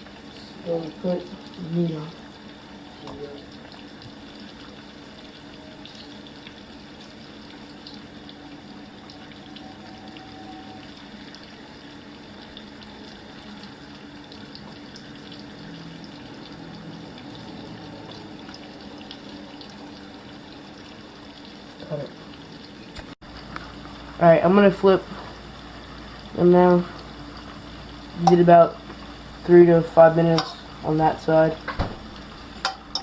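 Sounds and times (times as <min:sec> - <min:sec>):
meat sizzling in a pan: 0:00.0 - 0:33.0.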